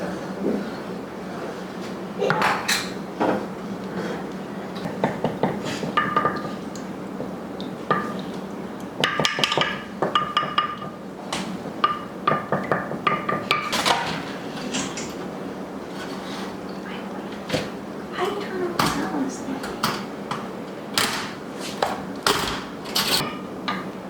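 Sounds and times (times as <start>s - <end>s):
dishes and cutlery clinking: 2.2s - 6.8s, 7.8s - 24.0s.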